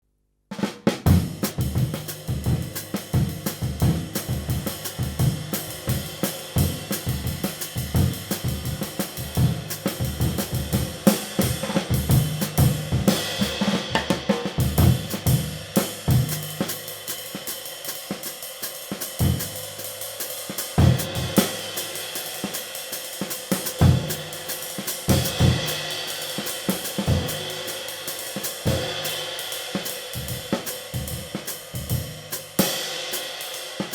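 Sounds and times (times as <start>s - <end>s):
snare drum: 0.5s - 33.9s.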